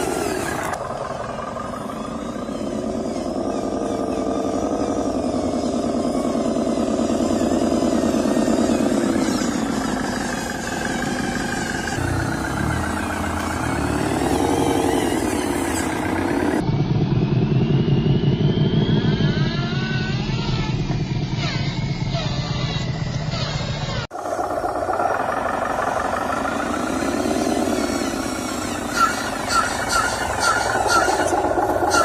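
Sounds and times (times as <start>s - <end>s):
electric motor and gearbox whining: 0.0s - 32.0s.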